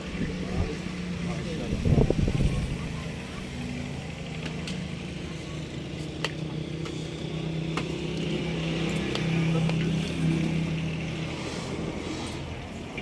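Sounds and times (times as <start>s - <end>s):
diesel engine throbbing: 0.0s - 13.0s.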